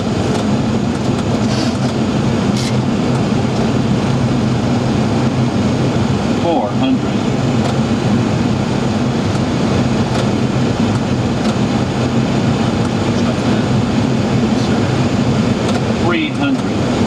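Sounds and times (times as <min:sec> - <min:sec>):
low constant hum: 0:00.0 - 0:17.0
rush of air conditioning: 0:00.0 - 0:17.0.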